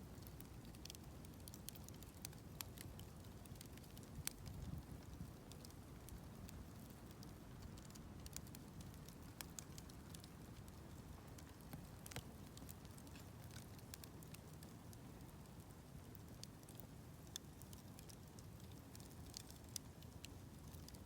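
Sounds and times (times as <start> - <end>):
campfire crackling: 0.0 - 21.0
sharp pops and ticks: 0.2 - 14.8, 16.3 - 21.0.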